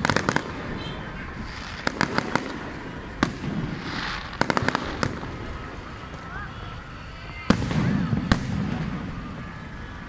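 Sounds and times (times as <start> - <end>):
fireworks bangs: 0.0 - 10.0
hissing crackle: 0.0 - 10.0.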